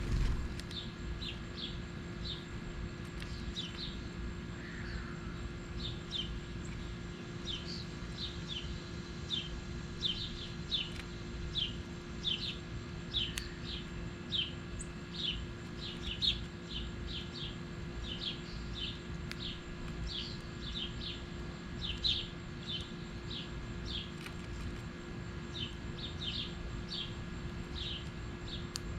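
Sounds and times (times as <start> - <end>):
songbird chip notes: 0.0 - 24.3
steady low hum: 0.0 - 28.9.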